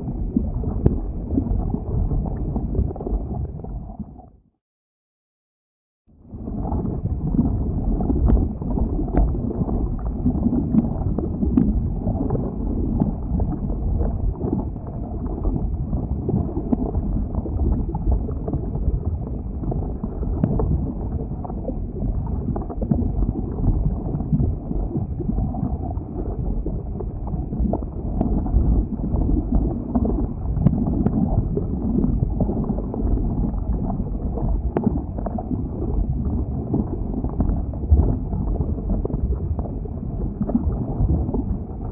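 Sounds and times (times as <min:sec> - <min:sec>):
lava flow rumble: 0:00.0 - 0:04.3, 0:06.2 - 0:41.9
wind on microphone: 0:00.0 - 0:04.3, 0:06.2 - 0:41.9
faint crackles and clicks: 0:00.1 - 0:04.3, 0:06.4 - 0:41.9.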